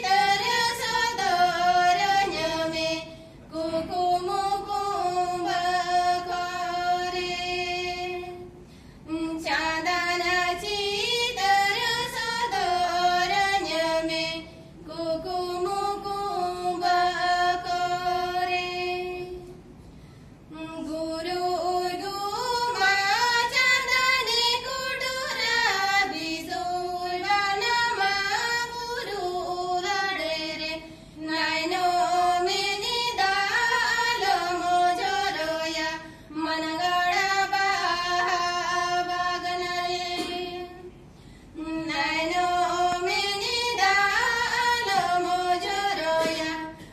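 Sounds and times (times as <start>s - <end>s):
two women singing unaccompanied: 0.0s - 19.7s, 20.4s - 46.9s.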